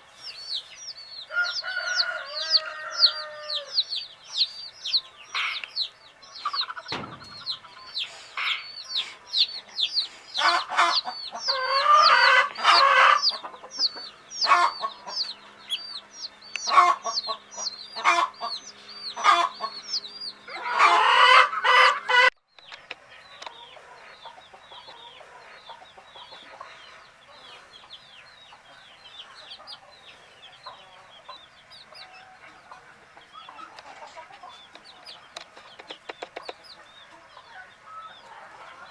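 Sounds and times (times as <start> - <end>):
baby chicks peeping: 0.0 - 38.9
hen clucking: 0.0 - 38.9.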